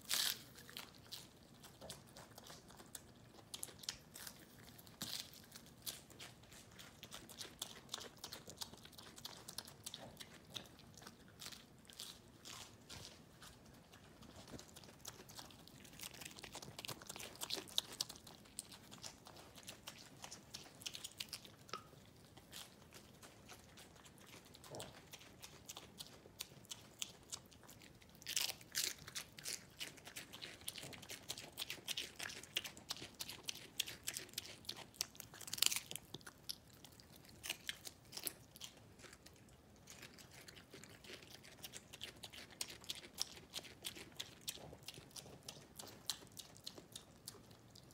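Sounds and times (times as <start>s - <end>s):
pig crunching lettuce: 0.0s - 47.9s.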